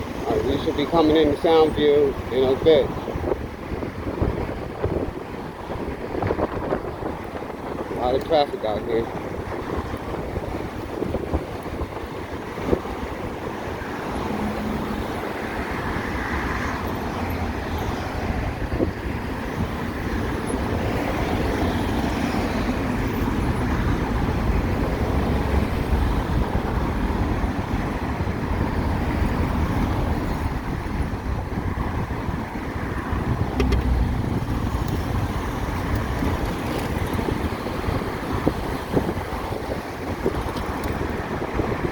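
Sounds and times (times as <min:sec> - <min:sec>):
cars running alongside: 0:00.0 - 0:41.9
road noise: 0:00.0 - 0:41.9
wind rushing over microphone: 0:00.0 - 0:41.9.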